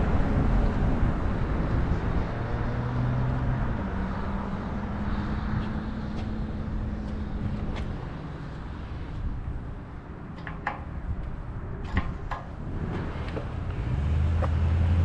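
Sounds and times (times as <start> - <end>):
car engine hum: 0.0 - 15.0
road rumble: 0.0 - 15.0
wind rumble: 0.0 - 15.0.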